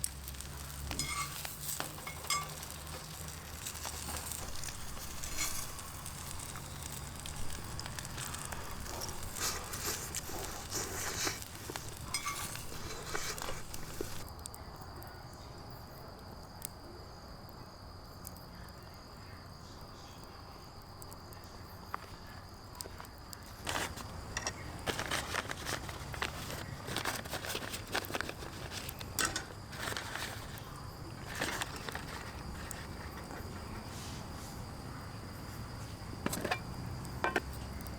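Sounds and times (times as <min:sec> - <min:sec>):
campfire crackling and sizzling: 0:00.0 - 0:14.6, 0:20.4 - 0:37.9.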